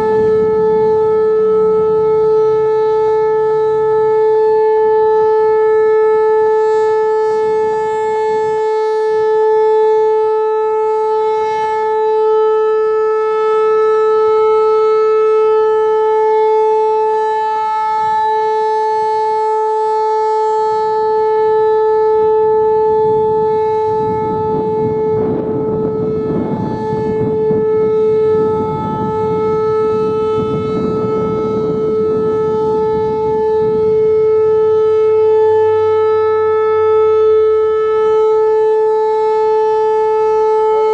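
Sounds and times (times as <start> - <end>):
rotating siren steady tone: 0.0 - 40.9.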